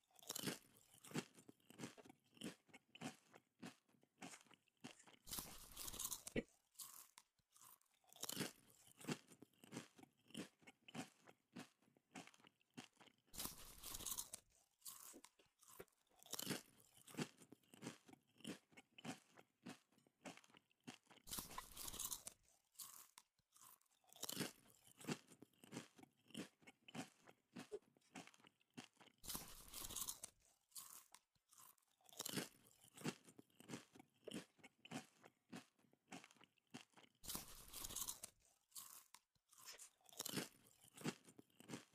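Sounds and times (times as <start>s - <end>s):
person chewing crunchily: 0.0s - 41.9s.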